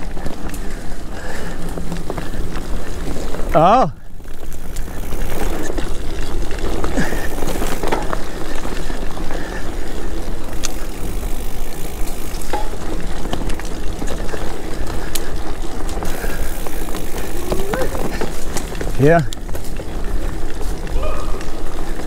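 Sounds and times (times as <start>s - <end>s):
bike rattling: 0.0s - 22.0s.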